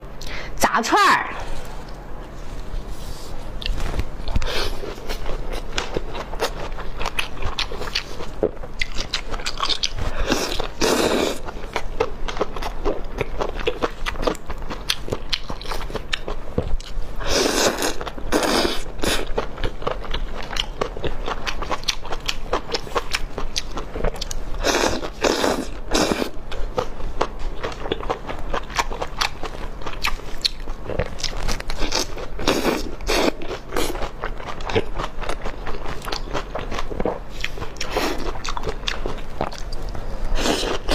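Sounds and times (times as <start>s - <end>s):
crunchy biting and chewing: 3.5s - 40.9s.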